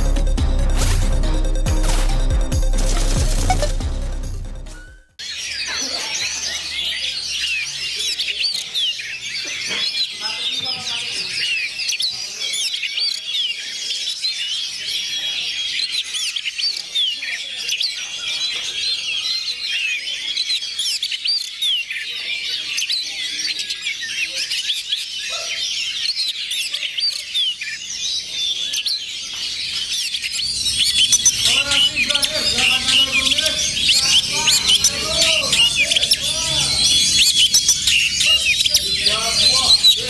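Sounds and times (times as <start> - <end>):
birds singing in chorus: 4.8 - 40.0.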